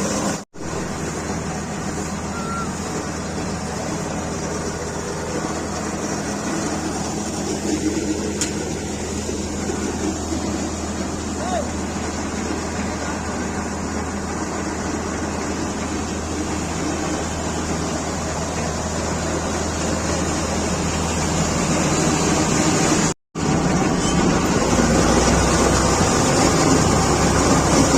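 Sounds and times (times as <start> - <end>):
combine harvester engine hum: 0.0 - 27.9.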